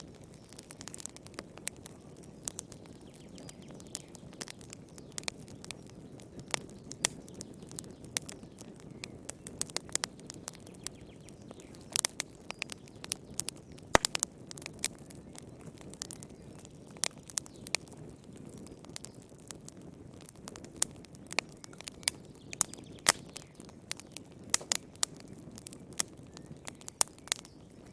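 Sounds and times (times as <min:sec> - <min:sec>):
campfire crackling: 0:00.0 - 0:27.9
fire pops and snaps: 0:00.0 - 0:27.9
low hiss of burning logs: 0:00.0 - 0:27.9.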